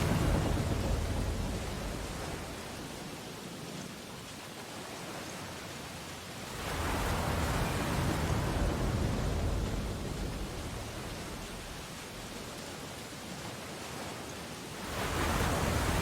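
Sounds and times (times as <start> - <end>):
ocean waves breaking on a beach: 0.0 - 16.0.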